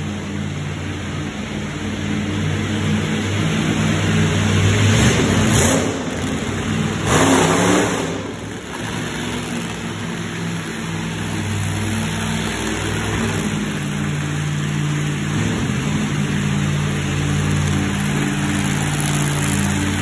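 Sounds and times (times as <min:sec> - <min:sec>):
monster truck engines revving: 0:00.0 - 0:20.0.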